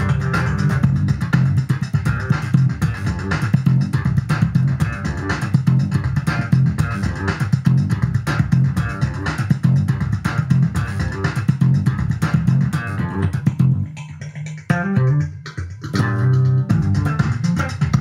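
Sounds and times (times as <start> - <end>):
slap bass notes: 0.0 - 18.0.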